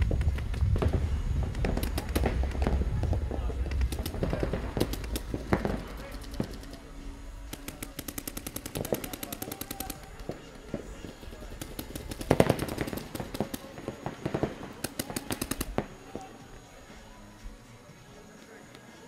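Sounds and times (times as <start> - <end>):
paintball markers firing: 0.0 - 16.3.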